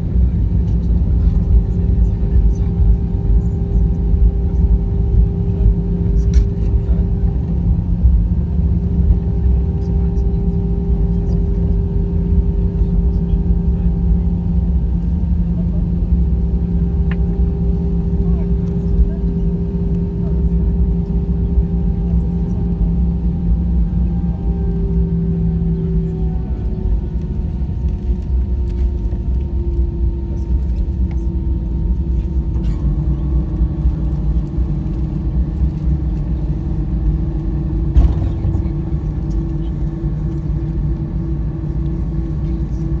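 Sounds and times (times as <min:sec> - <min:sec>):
jet engines rumbling in cabin: 0:00.0 - 0:43.0.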